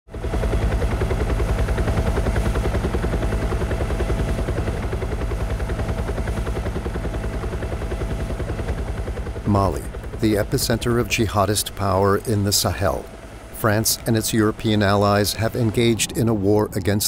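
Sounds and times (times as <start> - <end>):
helicopter rotor beat: 0.1 - 17.0
turbine whine: 0.1 - 17.0.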